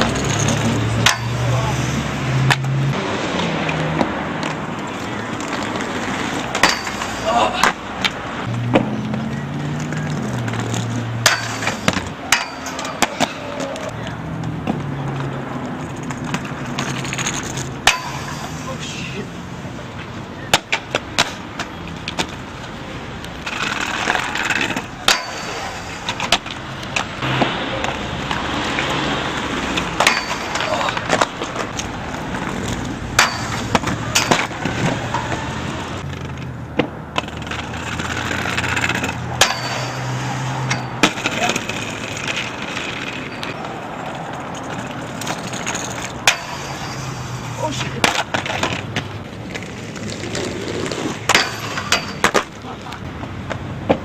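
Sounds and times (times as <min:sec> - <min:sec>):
skates clacking on metal rail: 0:00.0 - 0:02.7, 0:03.4 - 0:19.2, 0:20.0 - 0:54.0
inline skates rolling on pavement: 0:00.0 - 0:54.0.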